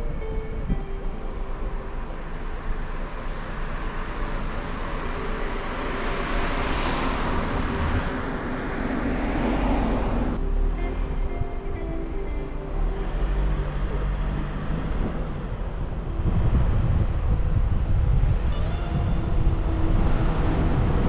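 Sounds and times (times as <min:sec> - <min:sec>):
road vehicle noise: 0:00.0 - 0:21.0.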